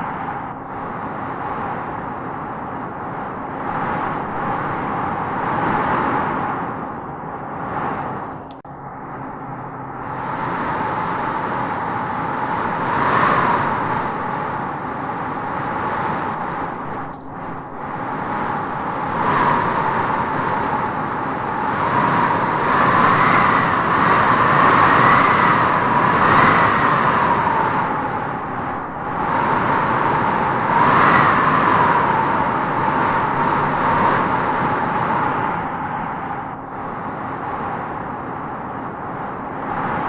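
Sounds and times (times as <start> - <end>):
wind howling in gusts: 0.0 - 40.0.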